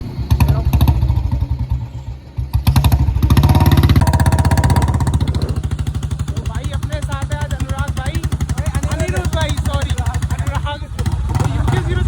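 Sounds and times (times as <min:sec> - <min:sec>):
motorcycle engine exhaust thumps: 0:00.0 - 0:12.0.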